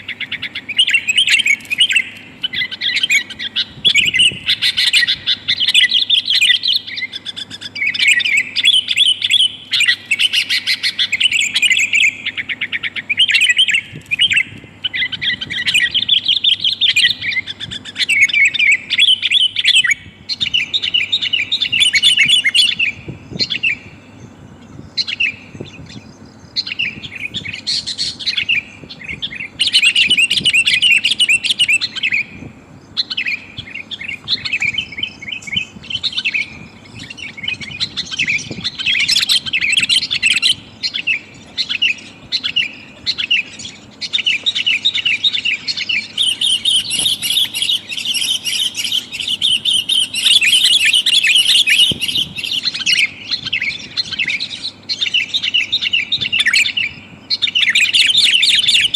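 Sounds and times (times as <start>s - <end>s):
bird rapid chirping: 0.0s - 58.9s.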